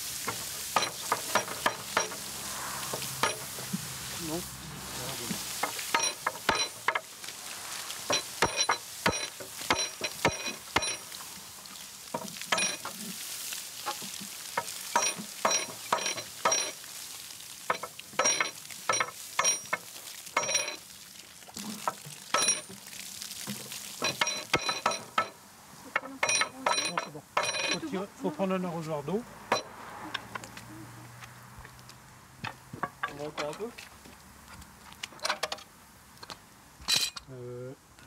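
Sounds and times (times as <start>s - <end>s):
water hissing on hot iron: 0.0s - 37.8s.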